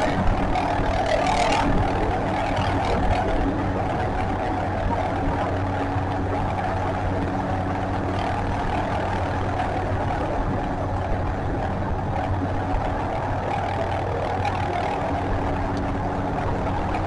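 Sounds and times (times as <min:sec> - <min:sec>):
helicopter engine and rotors whining: 0:00.0 - 0:17.0
low hum: 0:00.0 - 0:17.0.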